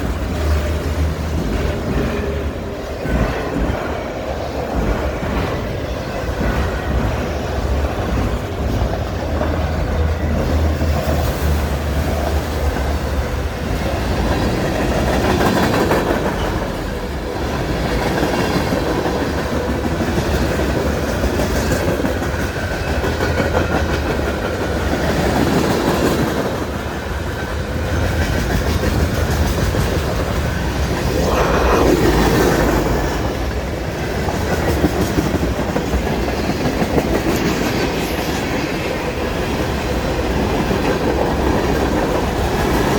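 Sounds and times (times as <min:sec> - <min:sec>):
train wheels clattering on rails: 0:00.0 - 0:31.1, 0:32.2 - 0:42.9.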